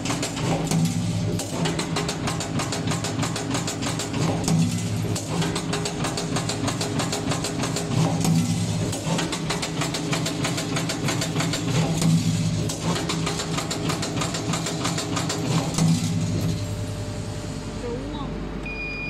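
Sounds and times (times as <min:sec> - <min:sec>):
rapid metallic clicking: 0:00.0 - 0:16.0.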